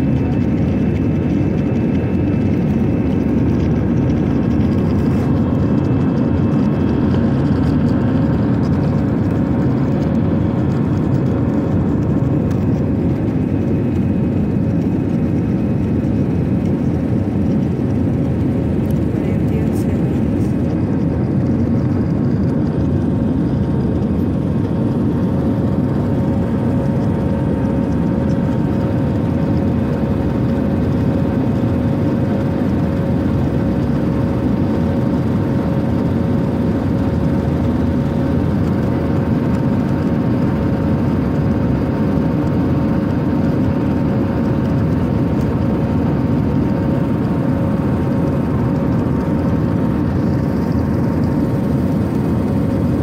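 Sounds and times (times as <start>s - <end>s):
aircraft engine rumble: 0.0s - 53.0s.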